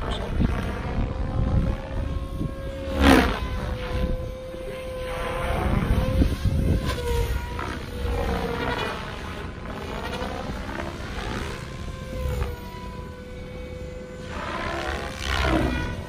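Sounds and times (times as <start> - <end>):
electric motor and gear whine: 0.0 - 16.0
rotor blades whooshing: 0.0 - 16.0.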